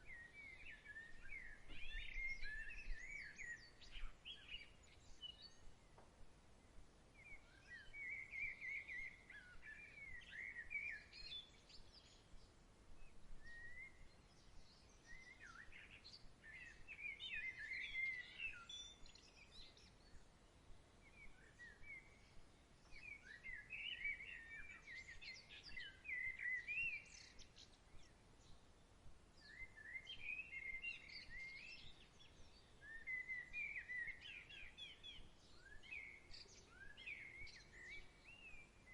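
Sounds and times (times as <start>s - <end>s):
soft outdoor hiss: 0.0s - 38.9s
songbird chirping: 0.0s - 38.9s.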